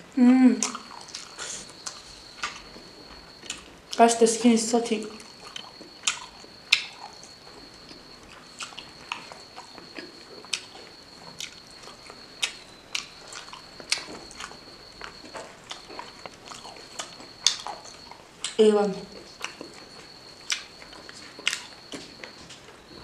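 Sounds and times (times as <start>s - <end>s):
faint high-pitched whine: 0.0s - 23.0s
close chewing with mouth clicks: 0.6s - 4.1s, 5.0s - 23.0s.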